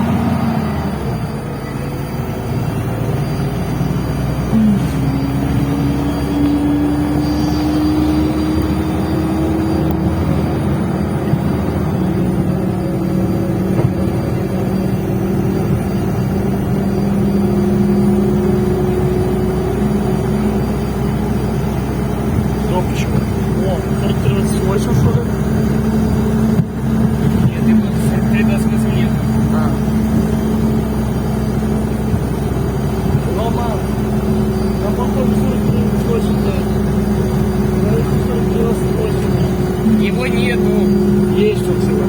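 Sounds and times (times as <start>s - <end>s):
bus engine rumble and whine: 0.0s - 42.0s.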